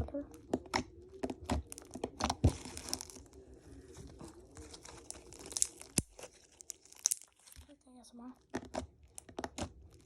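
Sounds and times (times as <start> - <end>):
slime crackling and popping: 0.0 - 10.0
slime squishing by hand: 0.0 - 10.0.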